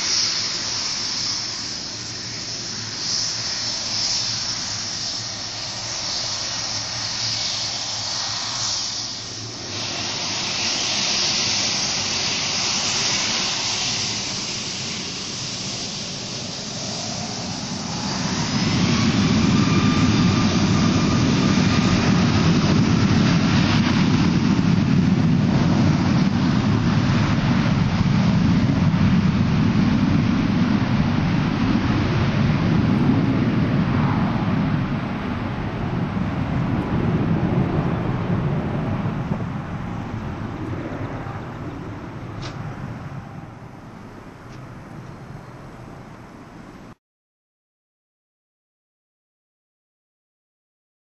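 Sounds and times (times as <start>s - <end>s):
jet engines whining and roaring: 0.0s - 47.0s.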